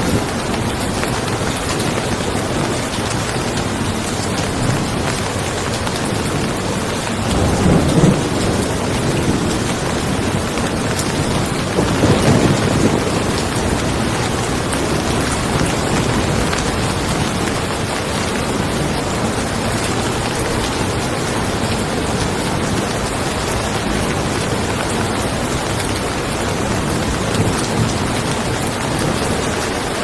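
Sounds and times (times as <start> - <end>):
steady rain: 0.0 - 30.0
thunder rolling: 4.1 - 30.0.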